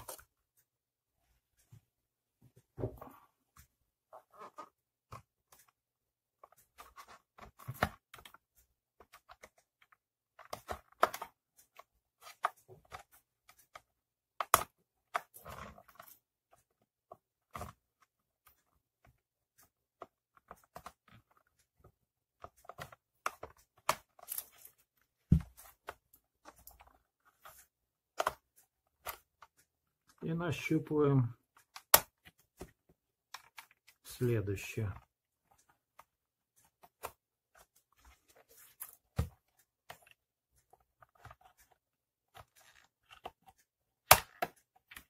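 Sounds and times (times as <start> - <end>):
plastic cover clicking and creaking: 6.4 - 19.2, 19.9 - 30.8, 31.4 - 45.0.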